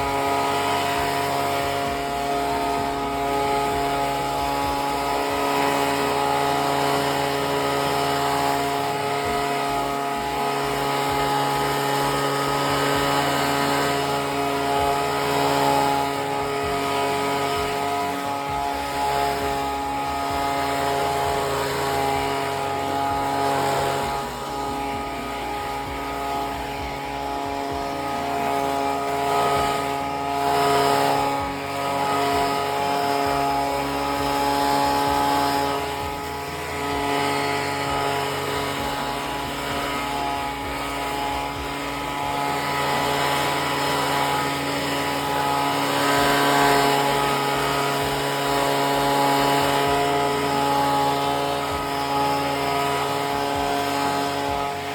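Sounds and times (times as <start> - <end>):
lawnmower engine running: 0.0 - 54.9.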